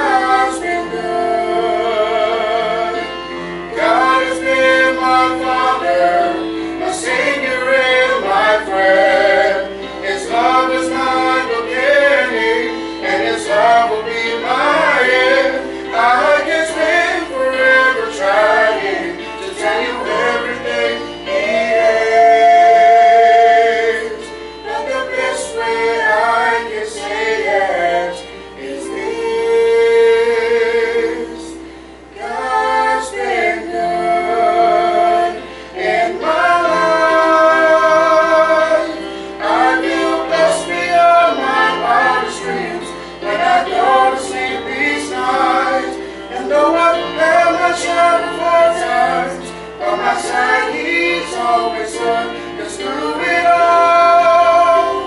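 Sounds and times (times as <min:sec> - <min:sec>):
instrumental accompaniment: 0:00.0 - 0:55.0
man and woman singing duet: 0:00.0 - 0:55.0.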